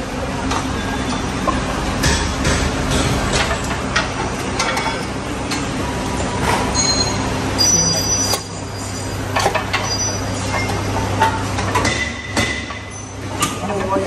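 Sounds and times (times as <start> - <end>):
steady workshop hum: 0.0 - 14.0.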